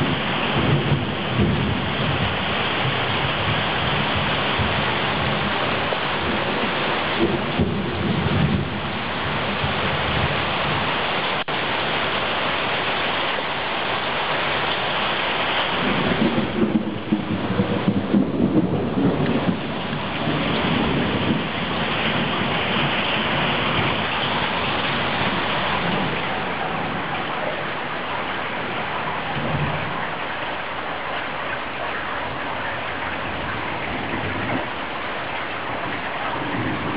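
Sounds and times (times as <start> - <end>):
thunder rumbling: 0.0 - 12.4, 15.6 - 36.9
heavy rain pouring: 0.0 - 36.9.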